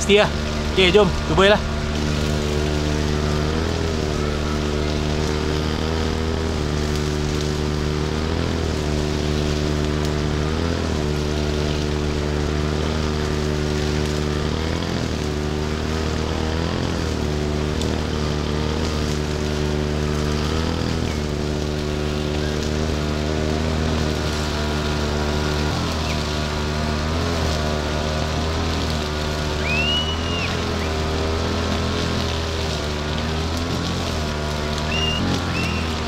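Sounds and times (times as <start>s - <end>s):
brush cutter engine running: 0.0s - 36.0s.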